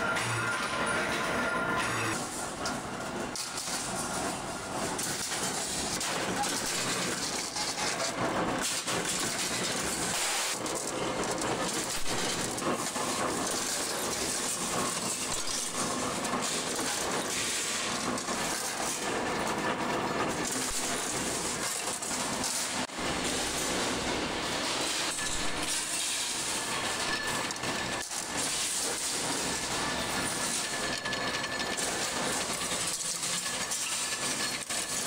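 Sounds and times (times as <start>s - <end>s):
workshop machinery clattering: 0.0s - 35.0s.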